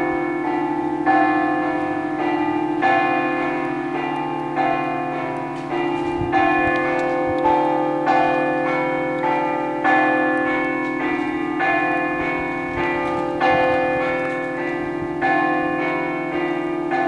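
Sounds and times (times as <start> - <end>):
church bells struck in rhythm: 0.0 - 17.0.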